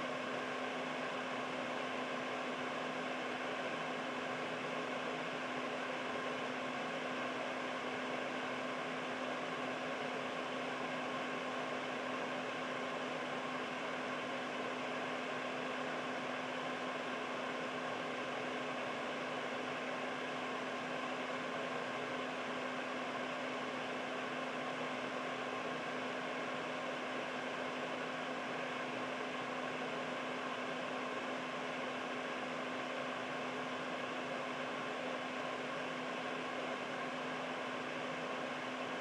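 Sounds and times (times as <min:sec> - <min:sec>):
air purifier fan running: 0:00.0 - 0:39.0.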